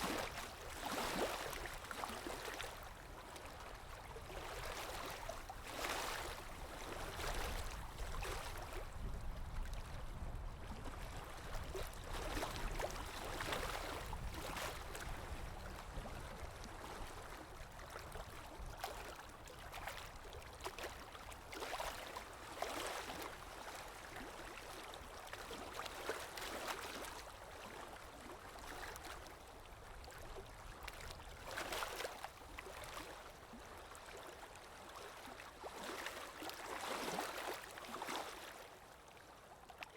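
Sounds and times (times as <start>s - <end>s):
water lapping in small wavelets: 0.0s - 39.9s.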